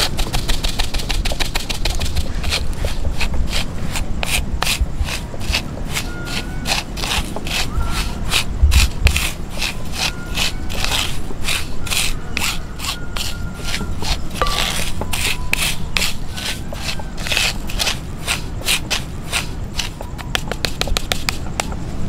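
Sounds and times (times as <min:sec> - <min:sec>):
dry rubbing and scraping of flour: 0:00.0 - 0:21.8.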